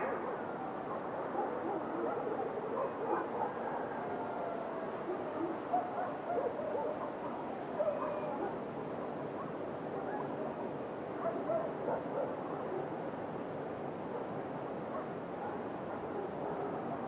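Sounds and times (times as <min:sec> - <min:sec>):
dogs barking: 0:00.0 - 0:04.3, 0:05.0 - 0:10.5, 0:11.2 - 0:12.9, 0:14.1 - 0:17.0
night-time ambience hiss: 0:00.0 - 0:17.0.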